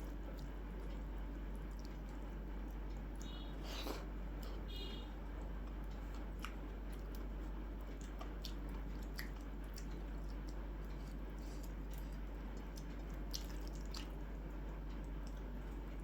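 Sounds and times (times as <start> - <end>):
person chewing food: 0.0 - 16.0
steady low hum: 0.0 - 16.0.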